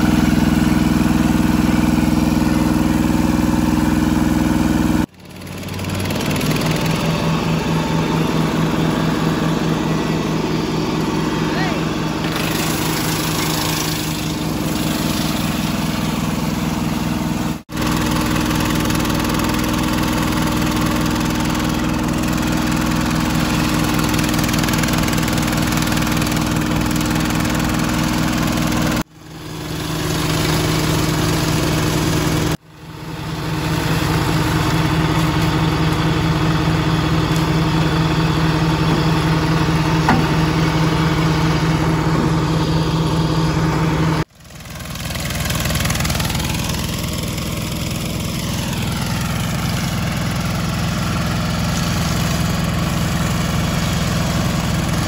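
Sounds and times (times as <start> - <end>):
shredder engine running: 0.0 - 55.0.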